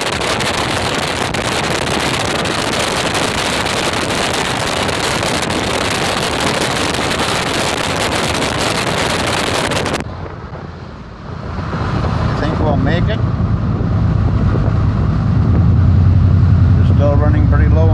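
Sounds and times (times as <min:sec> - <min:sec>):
low vehicle hum: 0:00.0 - 0:17.9
tyre and road noise: 0:00.0 - 0:17.9
wind rushing over microphone: 0:00.0 - 0:17.9.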